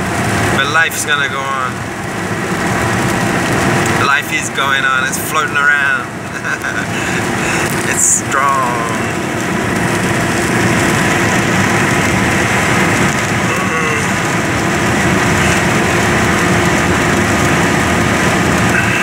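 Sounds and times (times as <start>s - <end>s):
vehicle rumbling: 0.0s - 19.0s.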